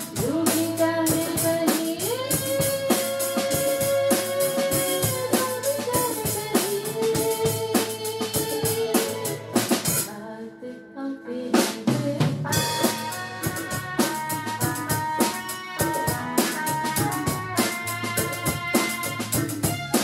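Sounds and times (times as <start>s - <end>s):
instrumental music with drum beat: 0.0s - 10.1s, 11.6s - 20.0s.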